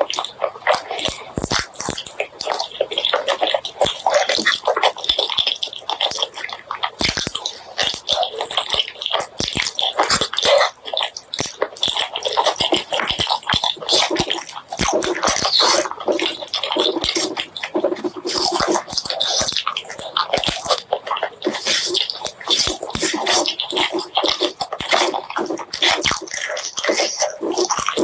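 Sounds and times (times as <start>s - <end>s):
wet chewing and lip-smacking: 0.0s - 28.0s.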